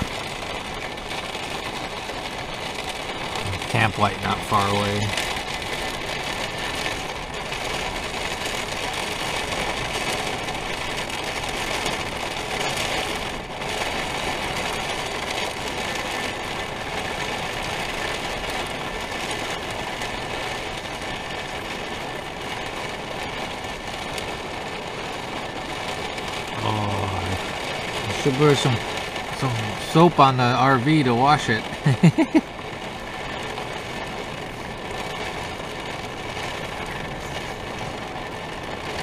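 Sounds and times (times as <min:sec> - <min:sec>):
heavy rain and wind: 0:00.0 - 0:39.0.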